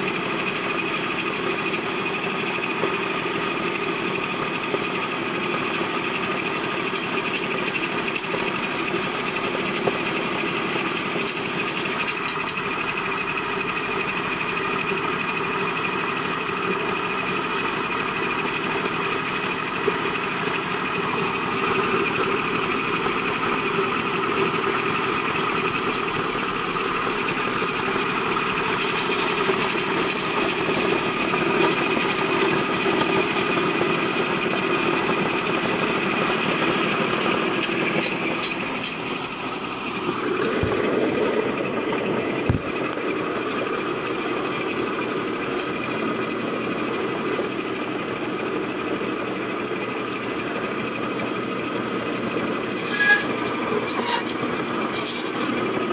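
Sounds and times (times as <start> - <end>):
electric grinding mill running: 0.0 - 55.9.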